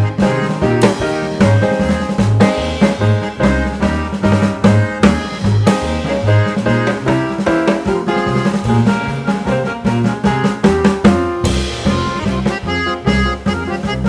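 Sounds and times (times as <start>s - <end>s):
melodic instrument: 0.0s - 14.0s
snare drum: 0.0s - 14.0s.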